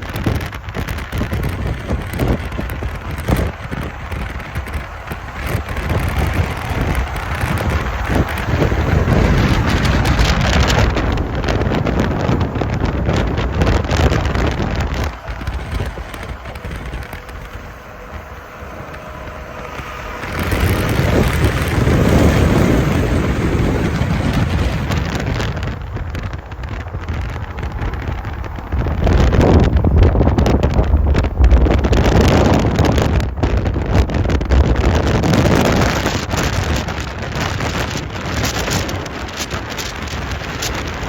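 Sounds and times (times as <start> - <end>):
vehicle ride rumble: 0.0 - 41.0
wind buffeting microphone: 0.0 - 41.0.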